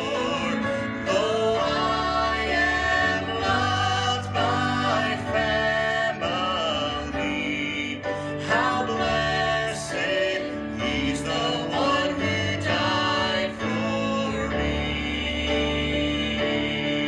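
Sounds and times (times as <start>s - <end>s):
man singing gospel song: 0.0s - 17.0s.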